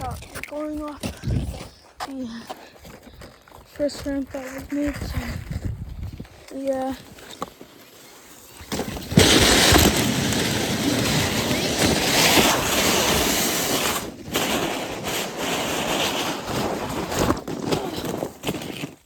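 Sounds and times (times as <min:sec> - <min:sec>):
sliding down an icy snow slope: 0:02.2 - 0:19.0.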